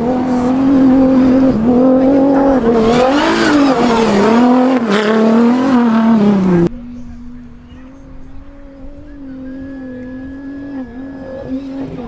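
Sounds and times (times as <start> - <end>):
rally car racing past: 0.0 - 12.0.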